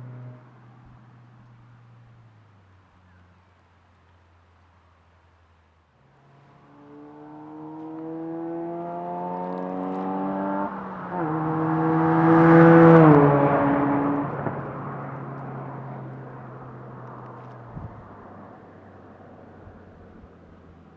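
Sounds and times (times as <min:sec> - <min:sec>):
car engine accelerating past: 0:00.0 - 0:02.4, 0:06.2 - 0:20.7.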